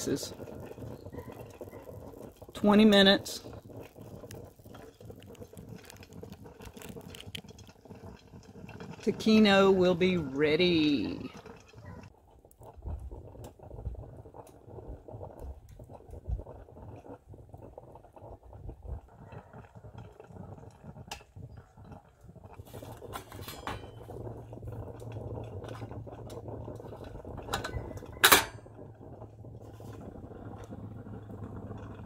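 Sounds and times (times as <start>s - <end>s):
coffee percolator gurgling: 0.0s - 32.0s
twig fire crackling: 0.0s - 32.0s.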